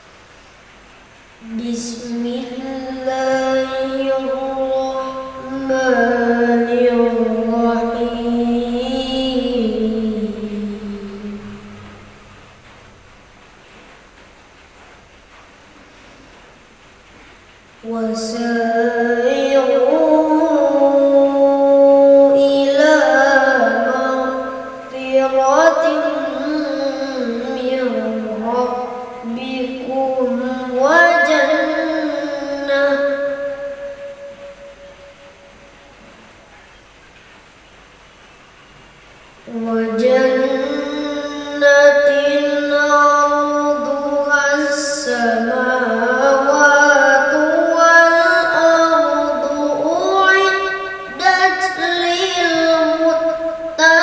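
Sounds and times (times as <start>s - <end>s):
boy chanting: 1.4s - 12.6s, 17.8s - 36.6s, 39.4s - 54.0s.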